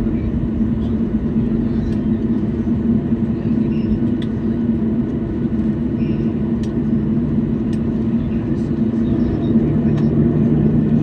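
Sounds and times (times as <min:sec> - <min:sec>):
airplane cabin droning hum: 0:00.0 - 0:11.0.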